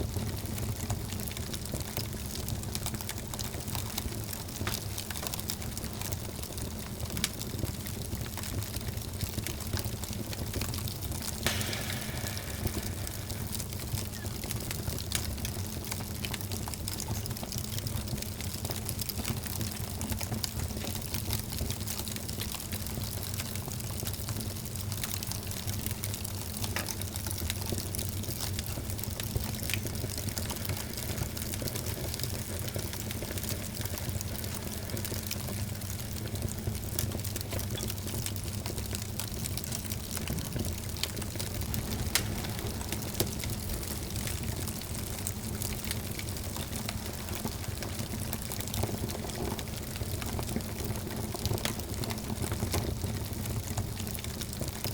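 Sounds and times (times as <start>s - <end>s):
fireplace fire crackling: 0.0s - 54.9s.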